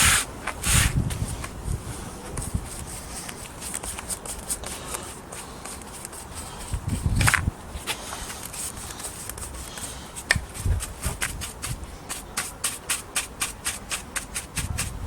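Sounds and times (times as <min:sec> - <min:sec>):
rhythmic rubbing strokes on wood: 0:00.0 - 0:01.4, 0:02.3 - 0:07.2, 0:07.8 - 0:15.0.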